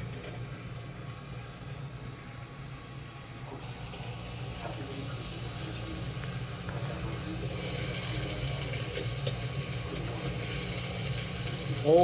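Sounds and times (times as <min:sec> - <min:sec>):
popcorn machine electric hum: 0:00.0 - 0:12.0.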